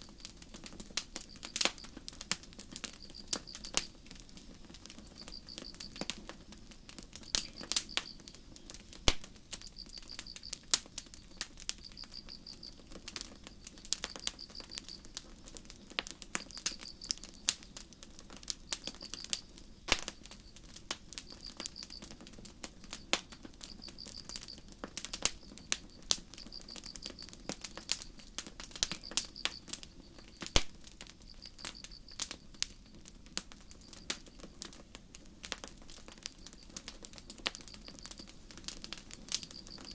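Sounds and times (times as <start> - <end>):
cricket chirping: 0.0 - 34.7, 35.9 - 39.9
campfire crackling and popping: 0.0 - 39.9.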